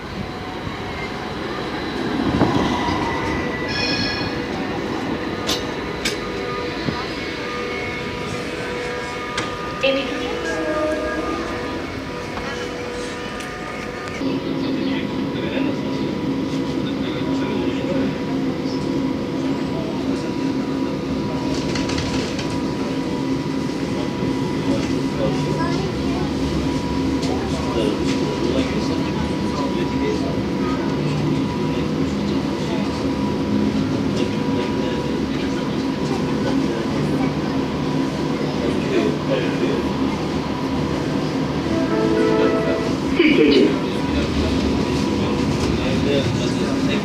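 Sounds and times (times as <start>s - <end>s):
tram wheels on rails: 0.0s - 47.0s.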